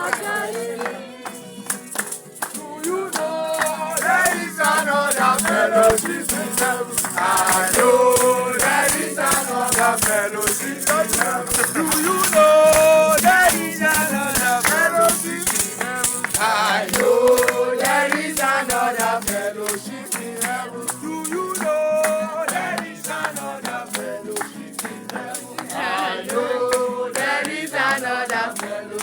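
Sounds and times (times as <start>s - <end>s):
group singing gospel song: 0.0s - 29.0s
shaker rattle: 0.0s - 29.0s.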